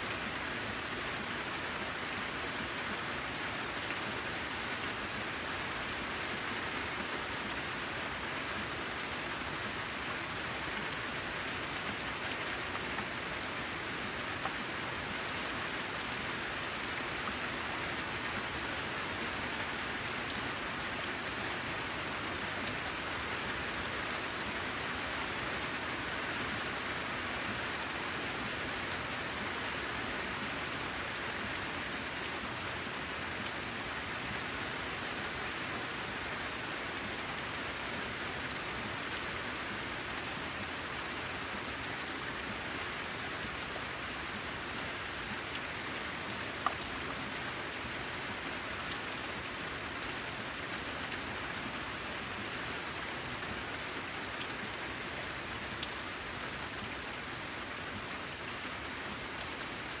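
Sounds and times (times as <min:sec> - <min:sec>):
rain on metal roof: 0:00.0 - 1:00.0.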